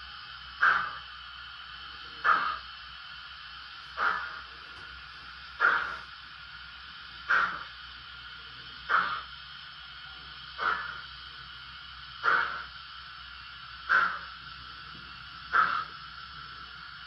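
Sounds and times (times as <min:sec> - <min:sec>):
steady hiss: 0:00.0 - 0:17.0
steam locomotive exhaust chuffs: 0:00.0 - 0:17.0.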